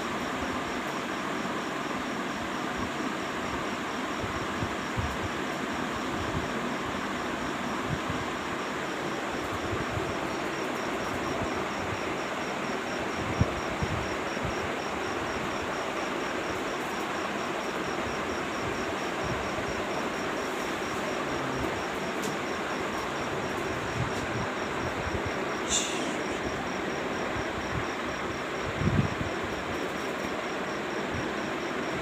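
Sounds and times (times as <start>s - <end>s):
electric fan running: 0.0s - 32.0s.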